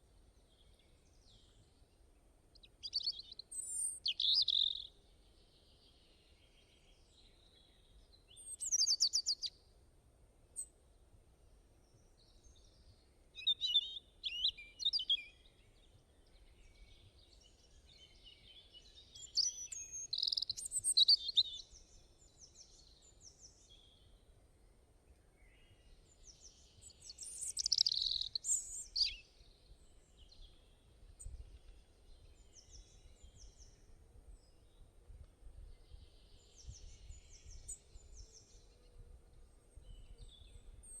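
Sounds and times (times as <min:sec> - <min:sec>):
small birds chirping: 0:00.4 - 0:09.6, 0:11.9 - 0:24.3, 0:25.1 - 0:41.0.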